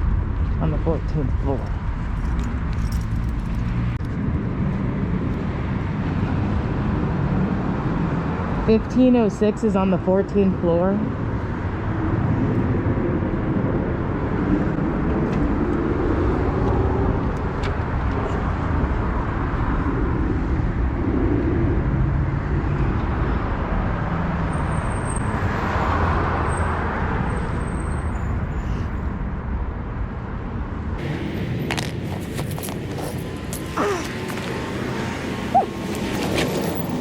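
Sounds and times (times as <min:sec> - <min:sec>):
road noise: 0:00.0 - 0:37.0.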